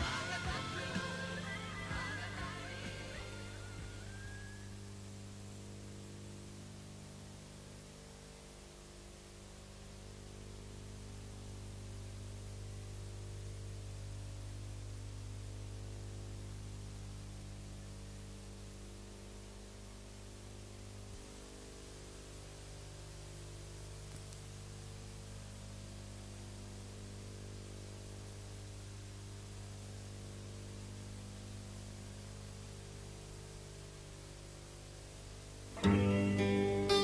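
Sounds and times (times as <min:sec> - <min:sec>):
electrical mains hum: 0:00.0 - 0:37.0
recording hiss: 0:00.0 - 0:37.0.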